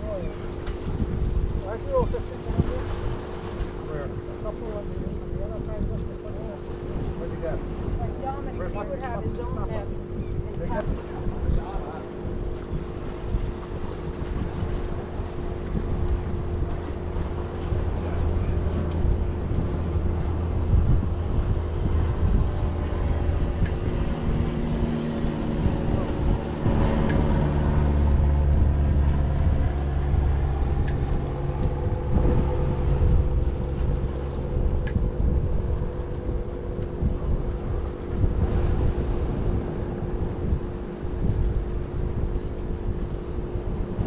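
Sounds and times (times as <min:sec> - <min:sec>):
engine running steadily: 0:00.0 - 0:44.0
wind buffeting microphone: 0:00.0 - 0:44.0.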